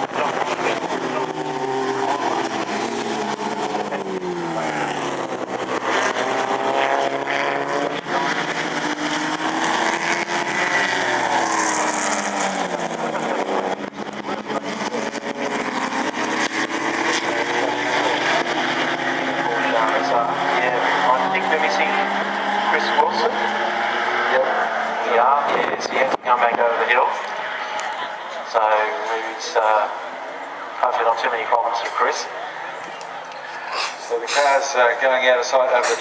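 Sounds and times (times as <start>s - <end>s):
racing car engines: 0.0s - 36.0s.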